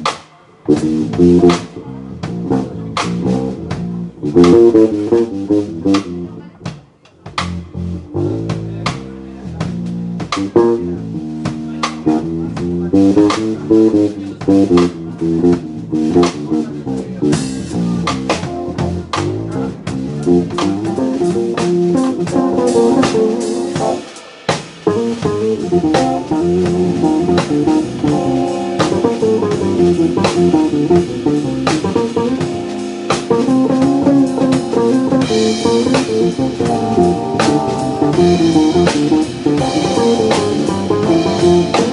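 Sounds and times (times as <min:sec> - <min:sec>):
drum kit: 0:00.0 - 0:41.9
electric bass: 0:00.0 - 0:41.9
live jazz band playing: 0:00.0 - 0:41.9.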